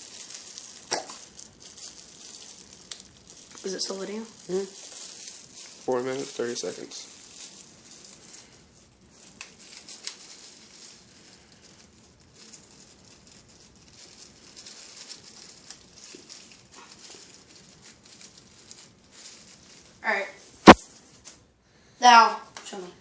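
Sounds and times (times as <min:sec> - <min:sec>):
light crinkling: 0:00.0 - 0:21.5.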